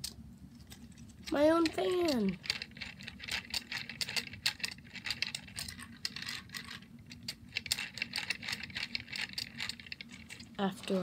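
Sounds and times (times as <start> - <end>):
plastic gears clicking and rattling: 1.2 - 11.0.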